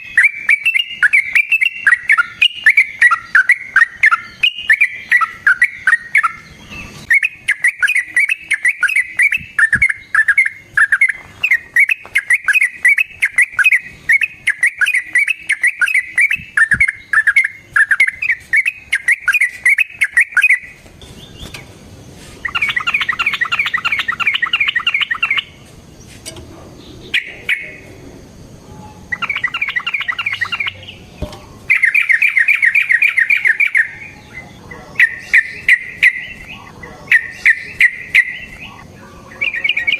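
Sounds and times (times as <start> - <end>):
bird rapid chattering: 0.0 - 21.7, 22.3 - 25.6, 26.8 - 28.0, 29.1 - 39.9
bird singing repeated notes: 0.0 - 26.1, 26.7 - 39.9.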